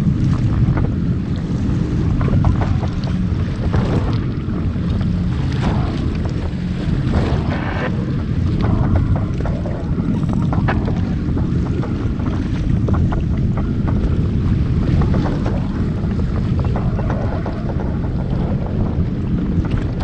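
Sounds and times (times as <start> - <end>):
water splashes: 0.0 - 20.0
waves on choppy sea: 0.0 - 20.0
wind rumbling on microphone: 0.0 - 20.0.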